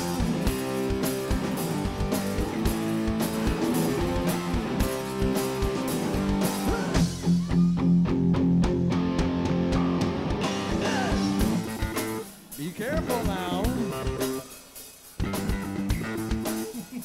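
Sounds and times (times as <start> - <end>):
bass guitar: 0.0 - 14.6, 15.2 - 17.0
drum kit: 0.0 - 17.0
electric guitars: 0.0 - 17.0.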